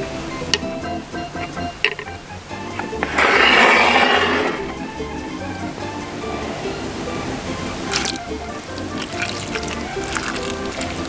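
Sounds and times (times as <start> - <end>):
background music with steady beat: 0.0 - 3.0, 4.7 - 11.0.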